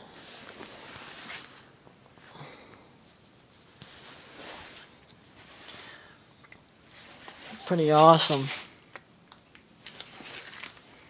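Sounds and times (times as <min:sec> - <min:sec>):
rustling and shuffling: 0:00.0 - 0:08.9, 0:09.5 - 0:11.0.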